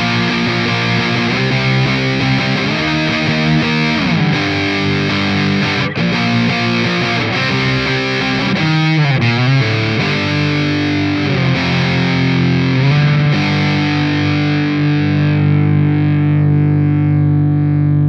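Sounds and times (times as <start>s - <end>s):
distorted electric guitar chords: 0.0s - 18.0s.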